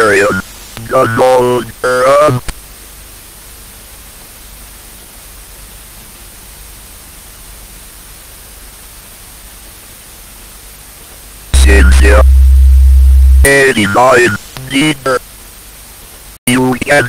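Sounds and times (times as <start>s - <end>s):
television static hiss: 0.0s - 17.0s.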